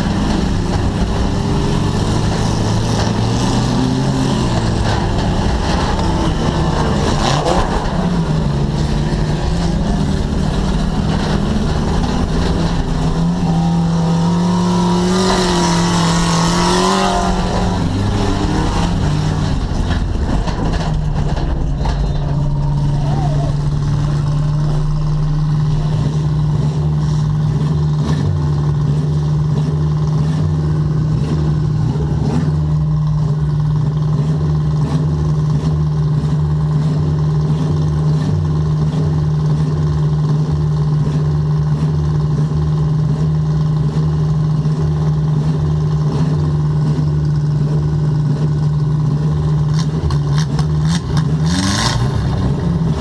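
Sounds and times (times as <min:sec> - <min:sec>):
car engine running and revving: 0:00.0 - 0:53.0
engine clatter: 0:00.0 - 0:53.0.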